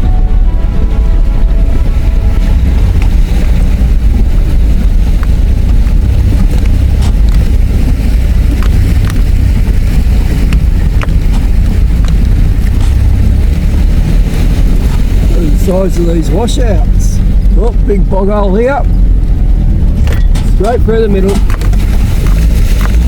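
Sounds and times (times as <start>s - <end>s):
car engine and tyres rumbling: 0.0s - 23.0s
car knocking and rattling over bumps: 0.8s - 23.0s.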